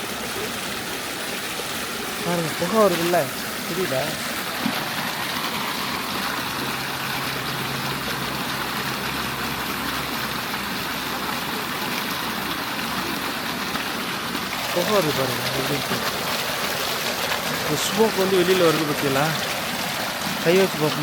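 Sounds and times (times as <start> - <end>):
water rushing from ground: 0.0 - 21.0.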